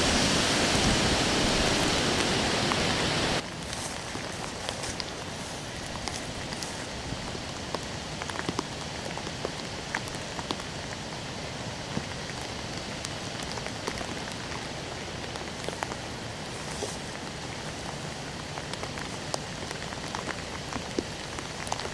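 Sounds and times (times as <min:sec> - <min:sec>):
rain on wet pavement: 0:00.0 - 0:21.9
raindrops ticking: 0:01.8 - 0:21.9.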